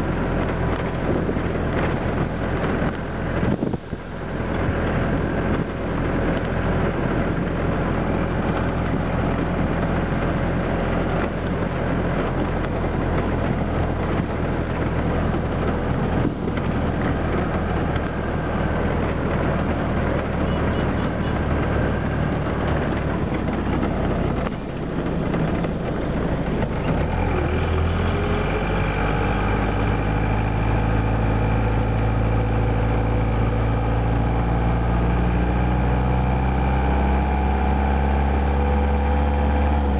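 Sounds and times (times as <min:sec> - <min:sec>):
bus engine running: 0:00.0 - 0:39.9
road noise hiss: 0:00.0 - 0:39.9.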